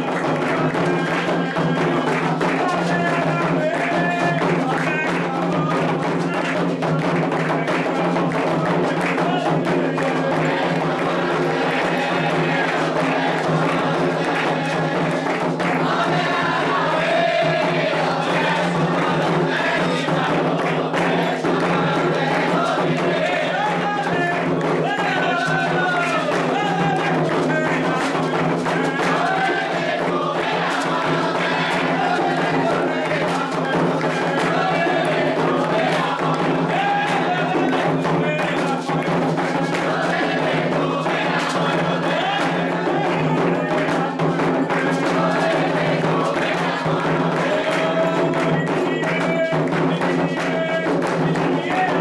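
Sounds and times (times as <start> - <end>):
hand drums playing fast rhythm: 0.0 - 52.0
voices singing a chant: 0.0 - 52.0.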